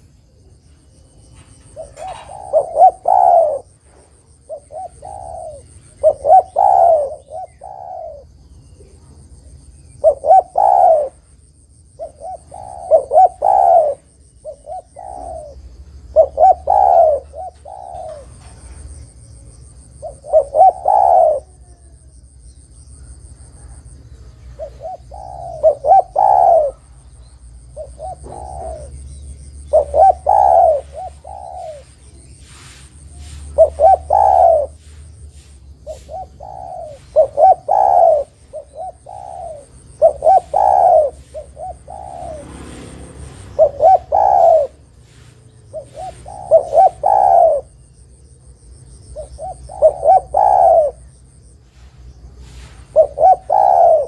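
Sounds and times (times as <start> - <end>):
dove cooing: 0.0 - 22.3, 22.9 - 54.0.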